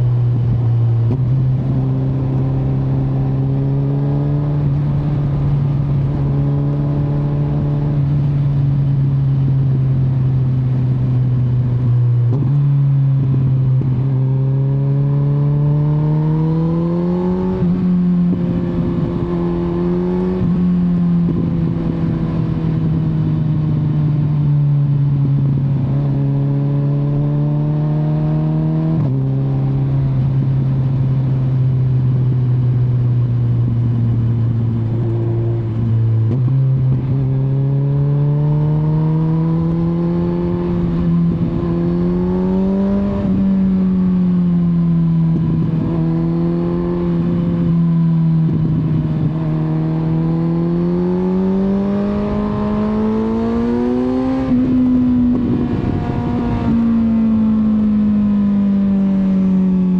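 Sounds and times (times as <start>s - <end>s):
motorcycle engine and exhaust: 0.0s - 59.9s
wind and road noise: 0.0s - 59.9s.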